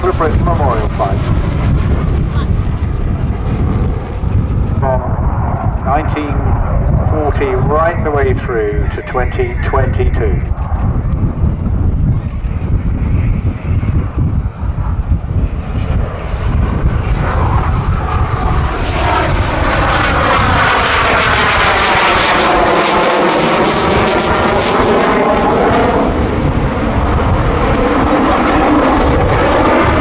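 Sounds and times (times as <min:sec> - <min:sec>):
jet engine roar: 0:00.0 - 0:30.0.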